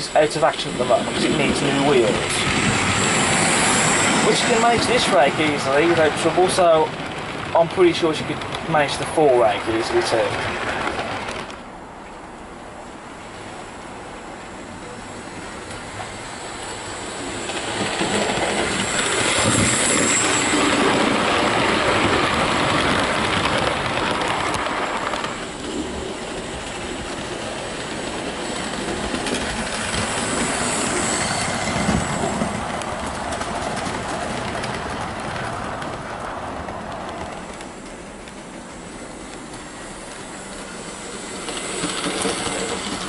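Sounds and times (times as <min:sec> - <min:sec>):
model train wheels rattling on rails: 0:00.0 - 0:11.6, 0:17.2 - 0:43.0.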